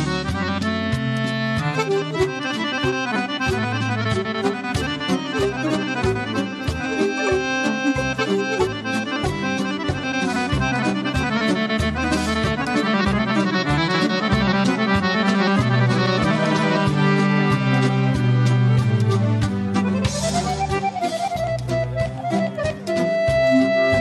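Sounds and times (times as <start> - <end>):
accordion: 0.0 - 24.0
folk orchestra playing: 0.0 - 24.0.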